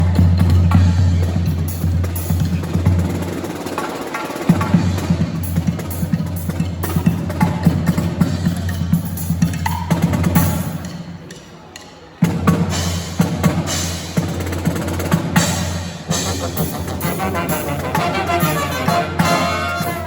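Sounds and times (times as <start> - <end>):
snare and bass drums: 0.0 - 11.5, 12.2 - 20.0.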